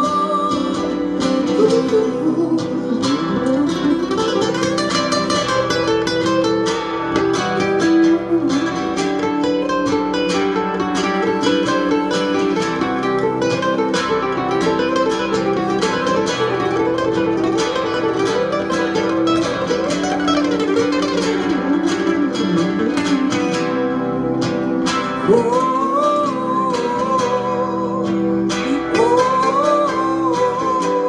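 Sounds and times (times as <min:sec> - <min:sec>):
fingerpicked nylon-string guitar: 0:00.0 - 0:31.0.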